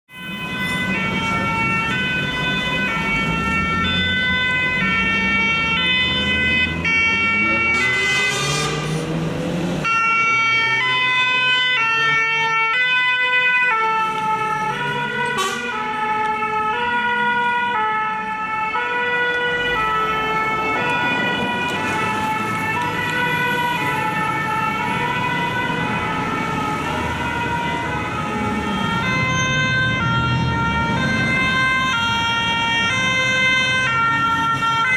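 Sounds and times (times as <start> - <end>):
truck engines and traffic: 0.1 - 34.9
two-tone emergency sirens: 0.1 - 34.9.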